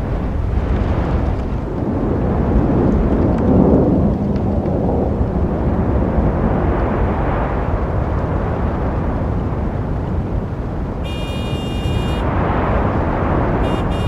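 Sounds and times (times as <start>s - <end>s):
road traffic rumble: 0.0s - 3.8s, 4.5s - 14.0s.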